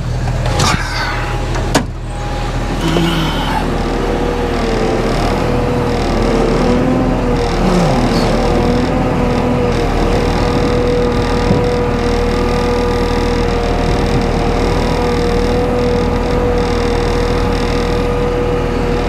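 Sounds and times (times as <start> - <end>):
diesel engine running: 0.0 - 19.0
steady whine: 0.0 - 19.0.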